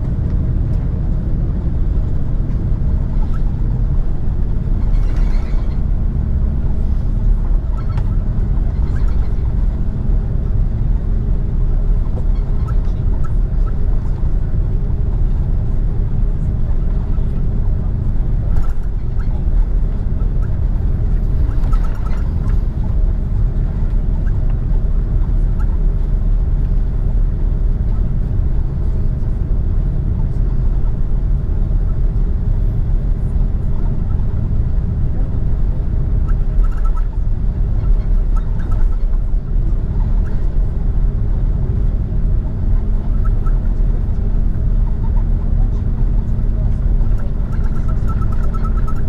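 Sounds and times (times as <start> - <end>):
airliner cabin rumble: 0.0 - 49.0
constant hum: 0.0 - 49.0.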